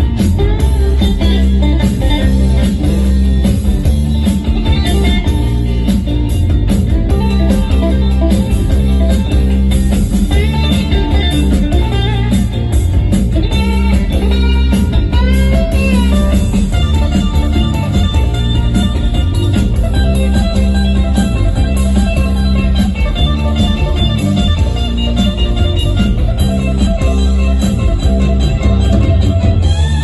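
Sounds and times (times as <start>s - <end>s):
electric guitar music with bass: 0.0s - 30.0s.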